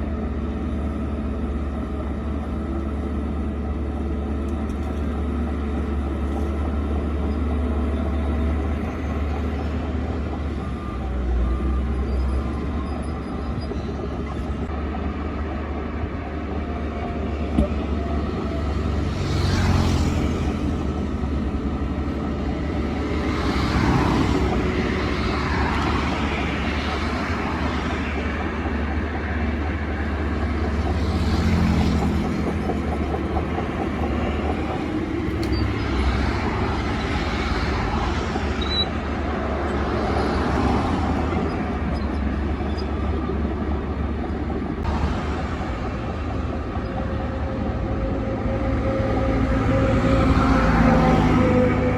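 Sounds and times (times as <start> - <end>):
bulldozer diesel engine rumbling: 0.0 - 51.9.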